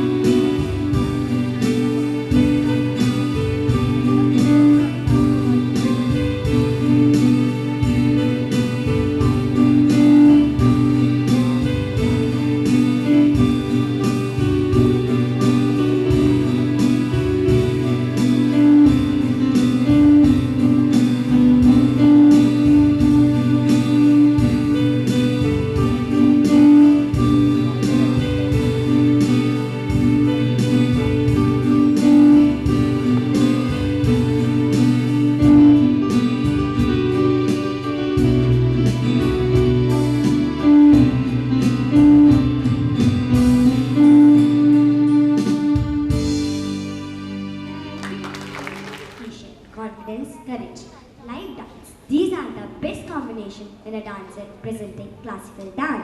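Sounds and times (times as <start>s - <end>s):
live instrumental music: 0.0s - 49.7s.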